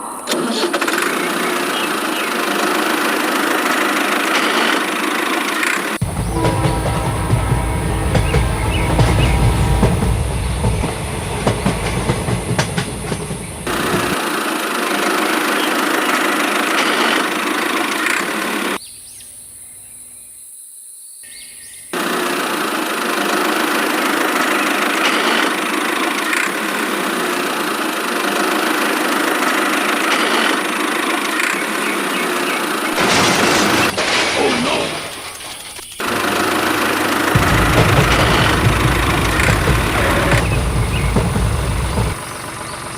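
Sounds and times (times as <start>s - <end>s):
motor running: 0.3s - 18.8s, 22.0s - 33.9s, 35.9s - 42.9s.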